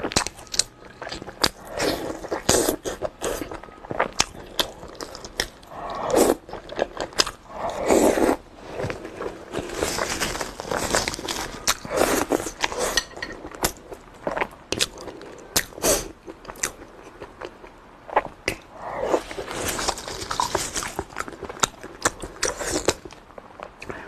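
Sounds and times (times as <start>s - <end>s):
person chewing and smacking: 0.0s - 24.0s.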